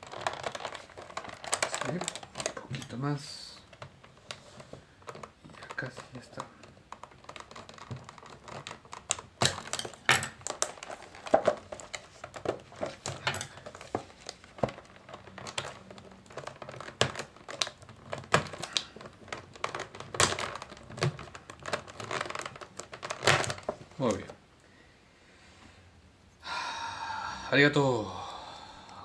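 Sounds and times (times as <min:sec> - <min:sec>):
plastic packaging crinkling: 0:00.0 - 0:24.4.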